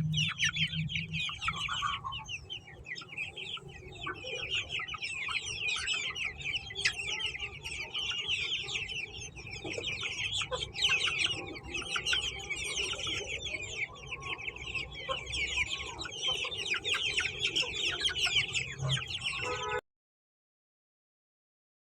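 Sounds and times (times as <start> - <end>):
chickens calling: 0.0 - 19.8
low chicken clucks: 0.0 - 19.8.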